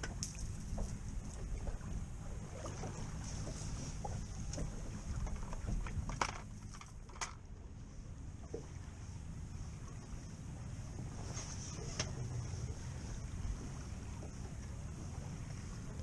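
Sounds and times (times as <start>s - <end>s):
sea: 0.0s - 16.0s.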